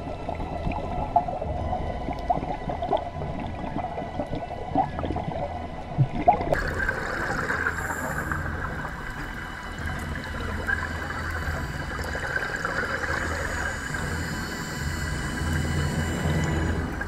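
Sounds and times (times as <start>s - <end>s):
muffled rush of water: 0.0s - 17.0s.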